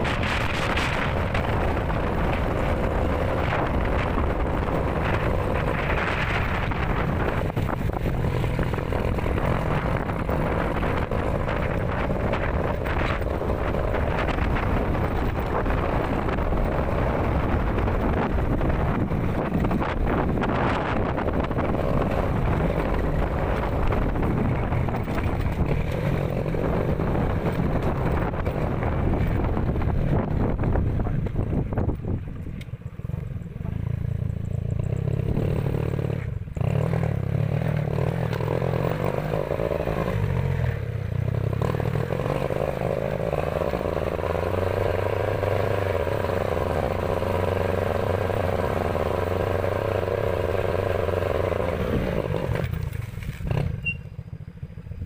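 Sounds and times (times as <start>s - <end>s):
wind buffeting microphone: 0.0s - 53.8s
motorcycle engine running: 0.0s - 55.0s.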